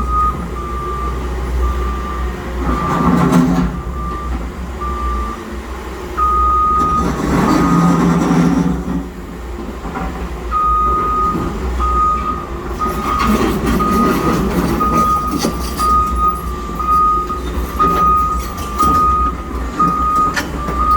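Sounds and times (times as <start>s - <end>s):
reversing alarm beeping: 0.0s - 5.6s, 6.2s - 8.1s, 10.5s - 20.9s
low engine rumble: 0.0s - 20.9s.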